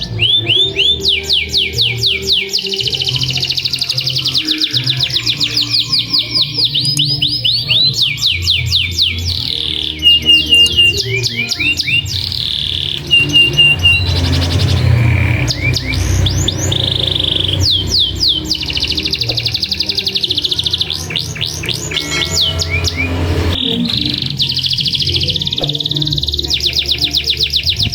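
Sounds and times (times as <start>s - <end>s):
canary singing: 0.0s - 27.9s.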